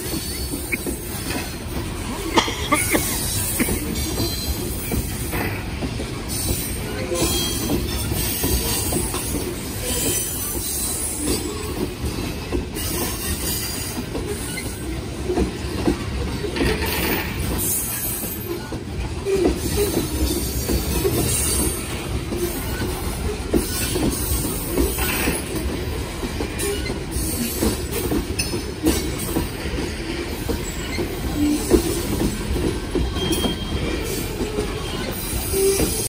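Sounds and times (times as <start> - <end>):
rail clacks: 0.0 - 36.0
train wheels rumbling on rails: 0.0 - 36.0.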